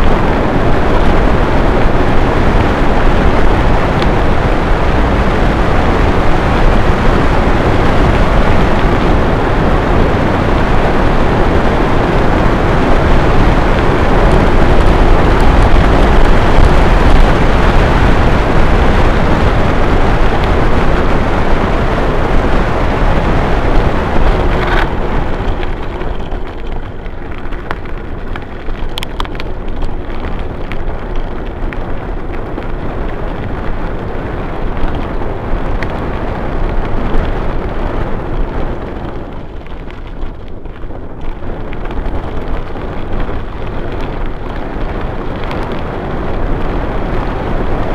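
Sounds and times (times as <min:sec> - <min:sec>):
tyre rumble on asphalt: 0:00.0 - 0:47.9
wind buffeting microphone: 0:00.0 - 0:47.9.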